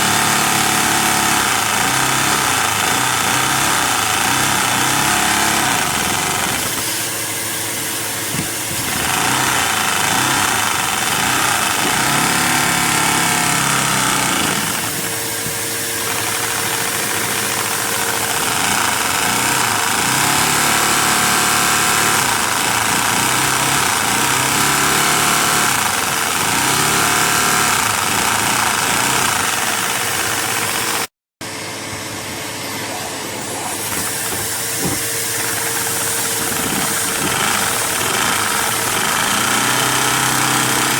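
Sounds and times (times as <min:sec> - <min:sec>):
vacuum engine whirring: 0:00.0 - 0:31.1, 0:32.6 - 0:40.9.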